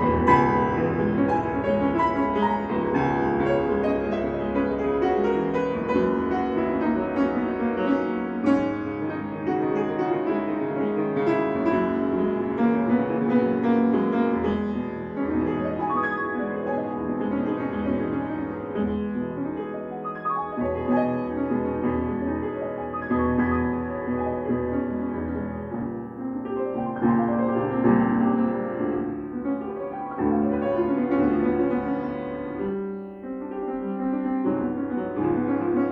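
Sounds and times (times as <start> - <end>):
grand piano playing: 0.0 - 35.9.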